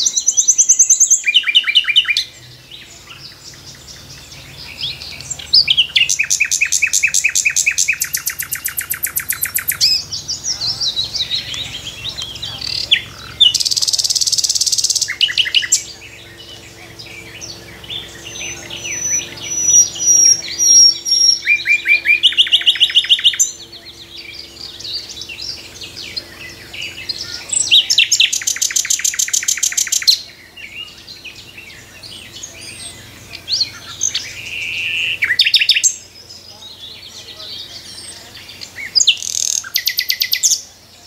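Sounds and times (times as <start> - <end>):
nightingale singing: 0.0 - 41.0.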